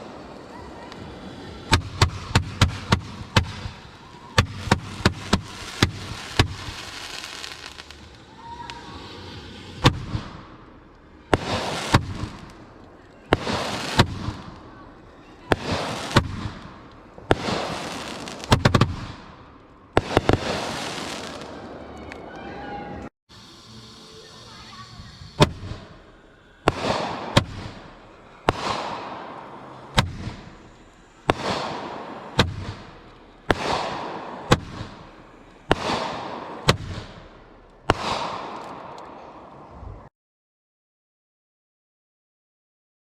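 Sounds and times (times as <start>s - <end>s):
fireworks booms with hiss: 0.0s - 22.3s, 23.3s - 40.1s
fireworks bangs: 0.0s - 22.4s, 24.1s - 40.1s.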